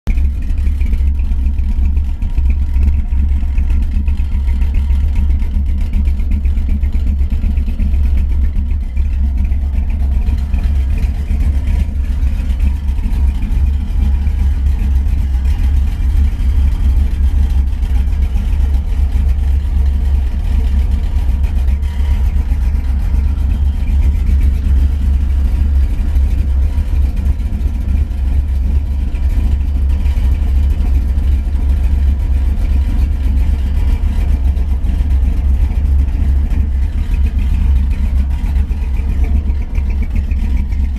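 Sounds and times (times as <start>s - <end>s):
car engine rumble: 0.0s - 40.9s
road noise: 0.1s - 40.9s.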